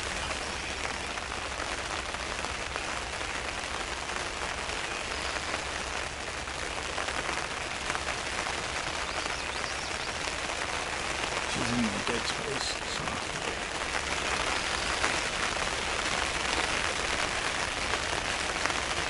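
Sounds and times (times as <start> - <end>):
rain pattering on blind: 0.0 - 19.0.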